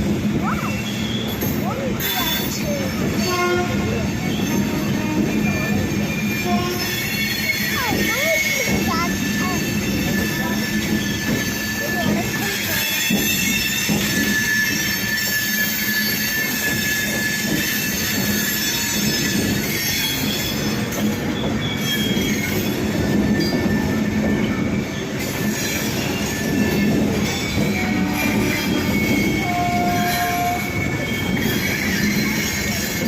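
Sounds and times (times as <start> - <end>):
train coaches rumbling and rattling: 0.0 - 33.0
train wheels squealing on rails: 0.0 - 33.0.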